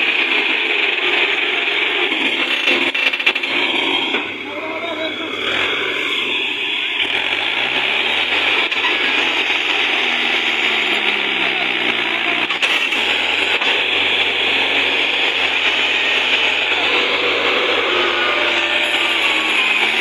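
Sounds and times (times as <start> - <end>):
tractor diesel engine straining: 0.0 - 20.0.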